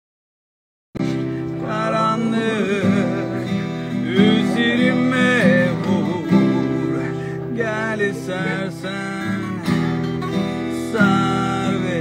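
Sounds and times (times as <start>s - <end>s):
acoustic guitars playing chords: 1.0s - 12.0s
man singing: 1.0s - 12.0s.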